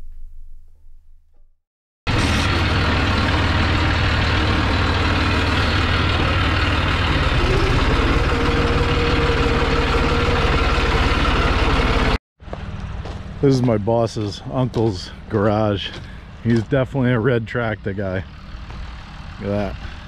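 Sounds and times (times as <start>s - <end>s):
tractor diesel engine running: 2.1s - 20.0s.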